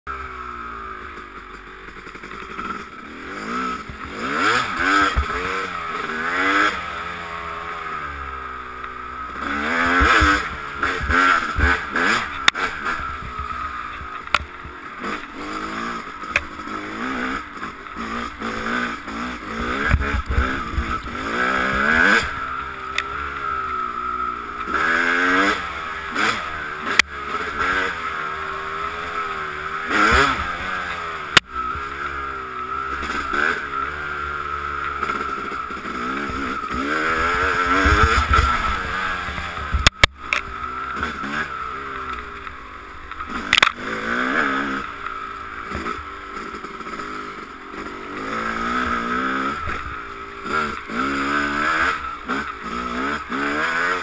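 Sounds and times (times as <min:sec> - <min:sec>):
dirt bike engine revving: 0:00.1 - 0:54.0.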